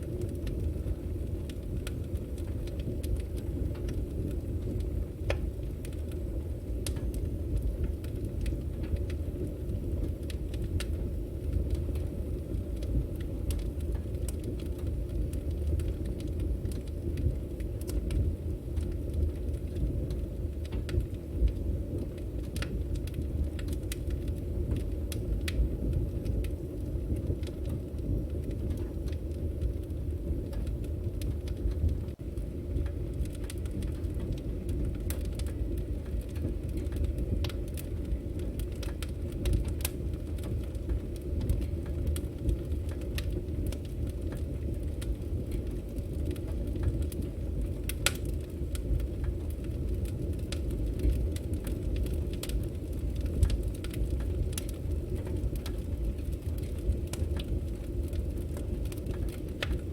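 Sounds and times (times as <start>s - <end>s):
flames rumbling: 0.0s - 59.9s
logs crackling and popping: 0.0s - 59.9s.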